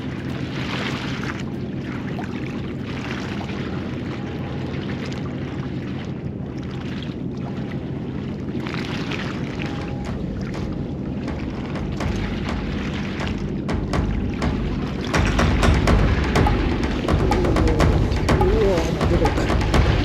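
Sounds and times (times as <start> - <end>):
low engine hum: 0.0 - 20.0
sea washing against concrete: 0.0 - 20.0.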